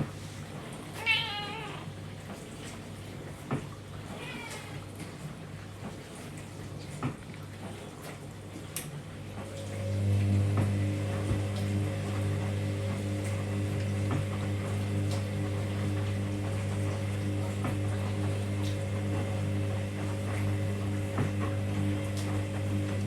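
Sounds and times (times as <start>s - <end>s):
washing machine motor humming: 0.0s - 23.0s.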